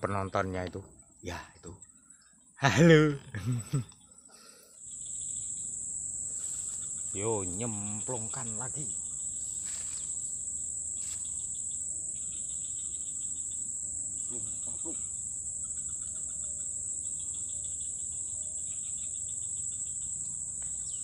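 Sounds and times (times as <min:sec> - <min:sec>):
faint pulsing insect trill: 0:00.0 - 0:21.0
high-pitched insect buzz: 0:00.0 - 0:21.0.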